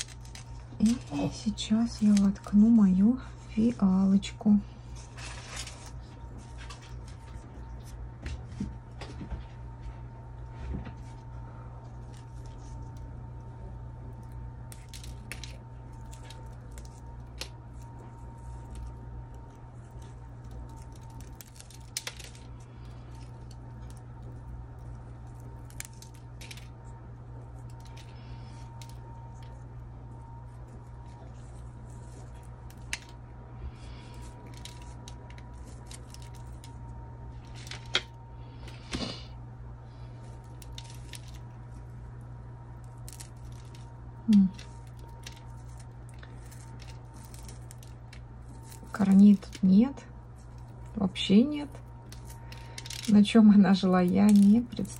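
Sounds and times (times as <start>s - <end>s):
soil crackling in hands: 0.0s - 2.8s, 11.8s - 39.1s, 39.9s - 54.9s
steady low hum: 0.0s - 54.9s.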